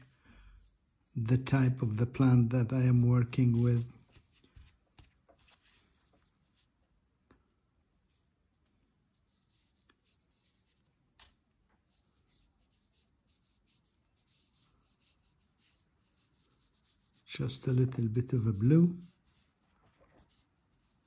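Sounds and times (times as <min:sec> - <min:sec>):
brush pen scratching on paper: 0:00.0 - 0:06.7, 0:08.1 - 0:21.0.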